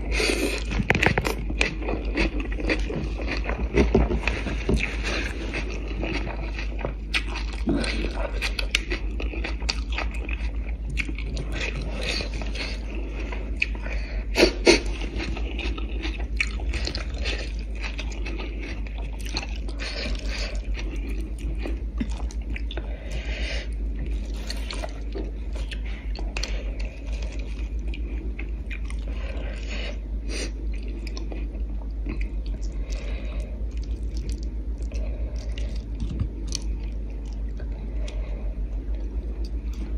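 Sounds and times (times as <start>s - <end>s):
close chewing and mouth sounds: 0.0s - 39.9s
steady low hum: 0.0s - 39.9s.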